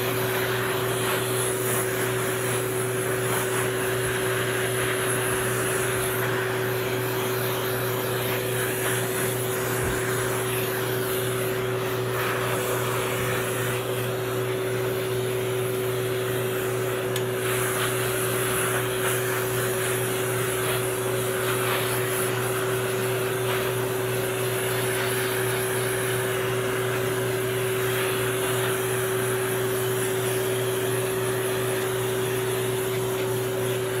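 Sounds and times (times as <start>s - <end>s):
grooming dryer blowing air: 0.0s - 34.0s.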